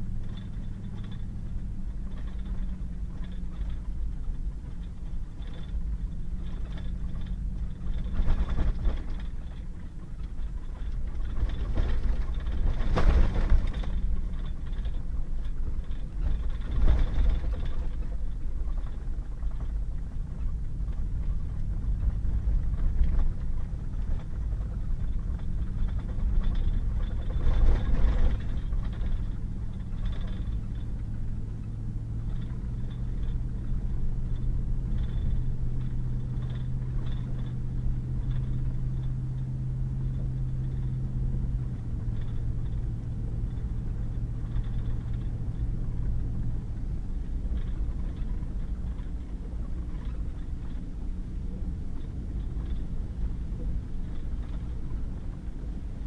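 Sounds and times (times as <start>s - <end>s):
truck driving on gravel: 0.0s - 56.0s
truck knocks and bumps: 0.1s - 53.0s.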